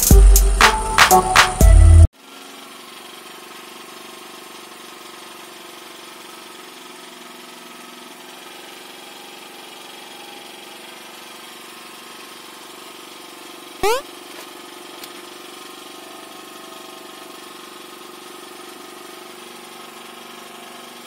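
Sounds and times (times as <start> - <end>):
small engine idling: 1.2 - 21.0.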